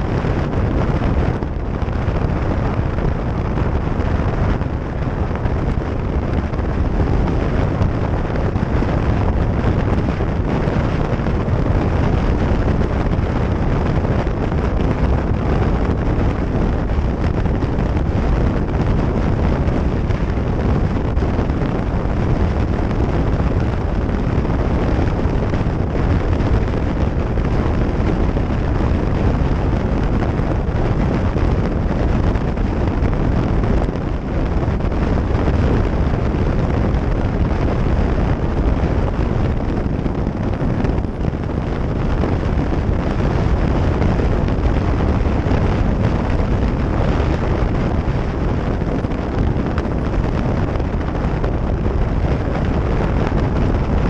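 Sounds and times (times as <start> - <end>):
motorcycle running and road noise: 0.0 - 54.0
wind rushing over microphone: 0.0 - 54.0.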